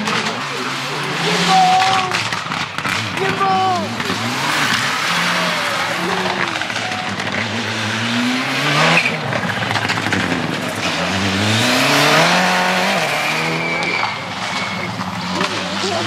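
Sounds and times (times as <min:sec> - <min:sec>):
rally car engines accelerating: 0:00.0 - 0:16.0.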